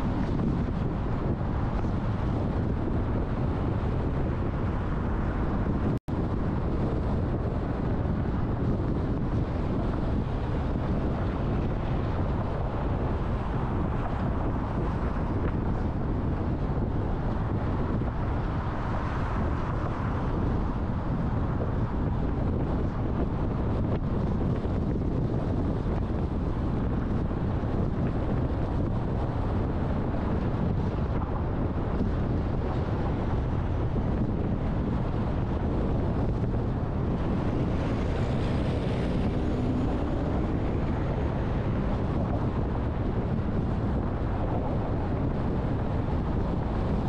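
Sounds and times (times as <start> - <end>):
car road noise rumble: 0.0 - 47.0
wind noise on microphone: 0.0 - 47.0.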